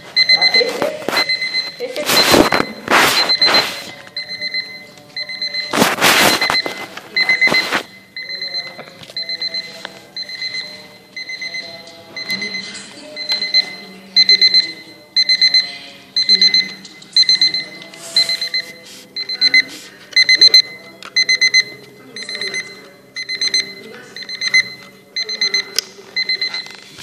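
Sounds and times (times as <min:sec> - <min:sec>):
alarm clock beeping: 0:00.0 - 0:26.9.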